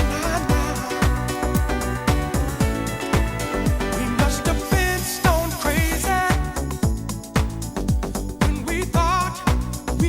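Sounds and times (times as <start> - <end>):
electronic dance music: 0.0 - 10.0
kick drum beat: 0.0 - 10.0.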